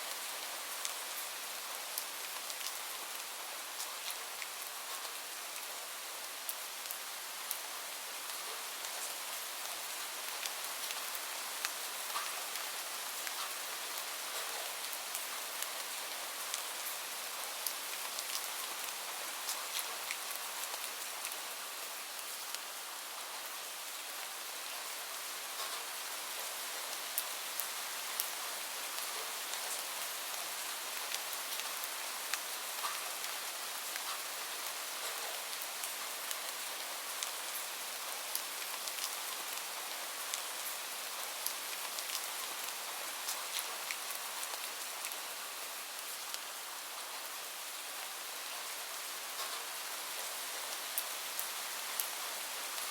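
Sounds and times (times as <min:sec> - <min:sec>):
rain hissing on a surface: 0:00.0 - 0:52.9.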